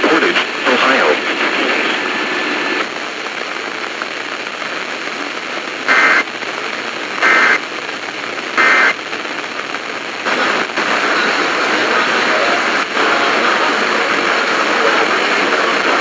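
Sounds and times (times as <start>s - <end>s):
radio hiss: 0.0s - 16.0s.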